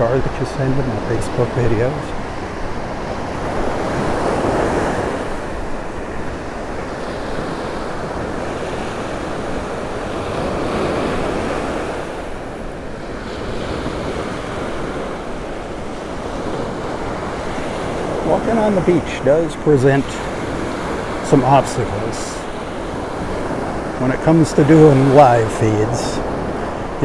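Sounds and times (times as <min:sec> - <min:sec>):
surf breaking on sand: 0:00.0 - 0:27.0.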